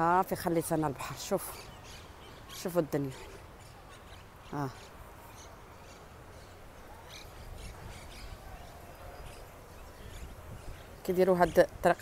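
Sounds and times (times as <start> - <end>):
wind rumbling on microphone: 1.6 - 12.0.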